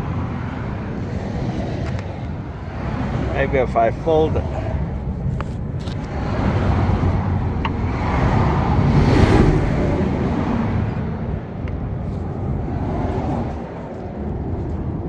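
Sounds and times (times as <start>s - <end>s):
vehicle passing with tyre noise: 0.0s - 15.0s.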